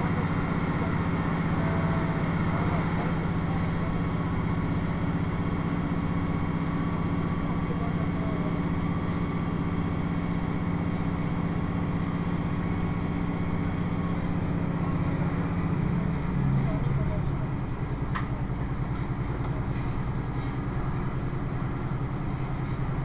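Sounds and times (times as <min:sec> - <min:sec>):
diesel train engine drone: 0:00.0 - 0:23.0.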